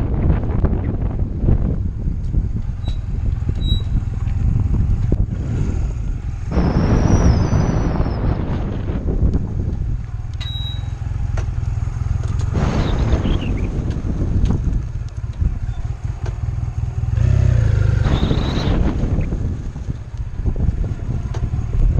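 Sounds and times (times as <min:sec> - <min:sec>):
motorcycle engine rumbling: 0:00.0 - 0:21.9
riding wind noise: 0:00.0 - 0:21.9.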